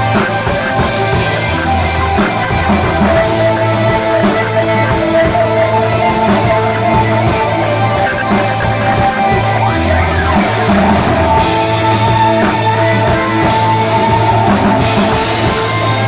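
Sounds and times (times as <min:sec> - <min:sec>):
drum kit: 0:00.0 - 0:16.0
electric guitar: 0:00.0 - 0:16.0
held bass notes: 0:00.0 - 0:16.0
rock band playing live: 0:00.0 - 0:16.0.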